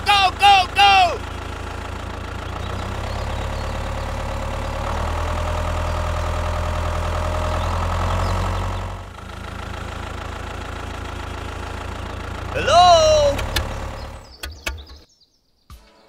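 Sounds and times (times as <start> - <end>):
tractor engine running: 0.0 - 15.1.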